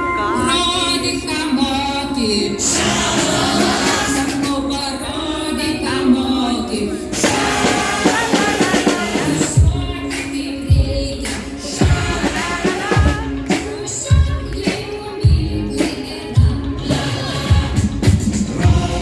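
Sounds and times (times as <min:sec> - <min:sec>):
music with singing and drums: 0:00.0 - 0:19.0.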